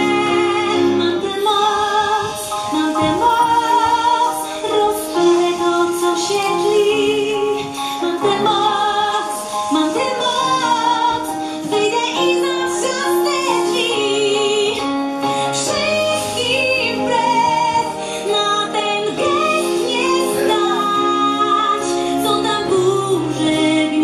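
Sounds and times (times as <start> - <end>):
instrumental accompaniment: 0.0 - 24.0.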